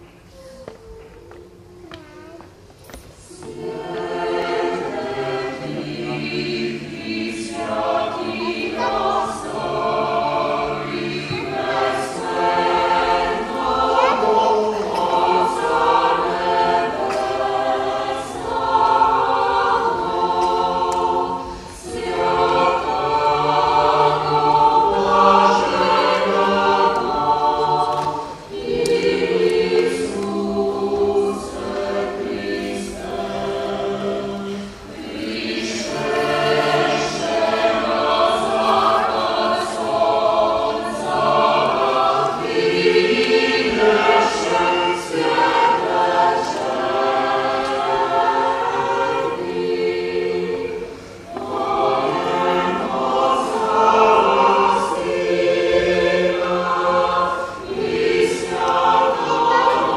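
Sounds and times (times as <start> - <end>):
mixed choir singing in harmony: 2.9 - 59.9.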